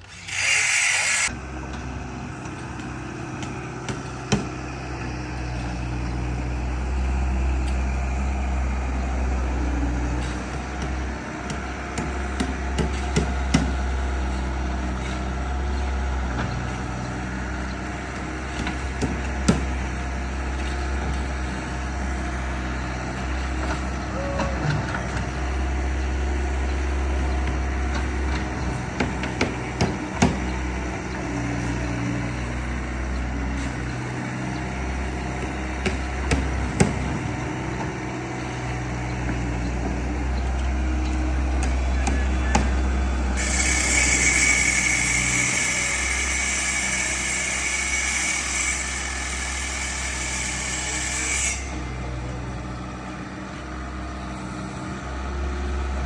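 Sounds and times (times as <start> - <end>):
large engine rumbling: 1.2 - 47.2, 51.6 - 56.0.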